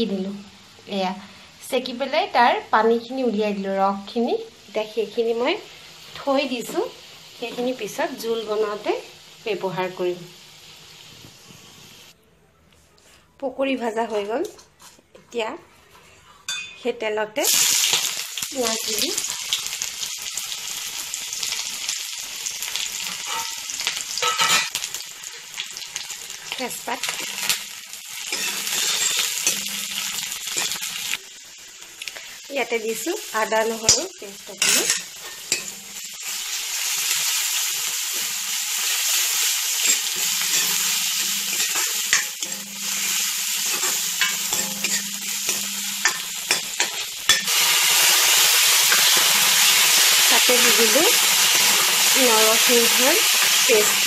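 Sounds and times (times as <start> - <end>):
onion sizzling in hot oil: 0.0 - 12.2, 17.4 - 54.0.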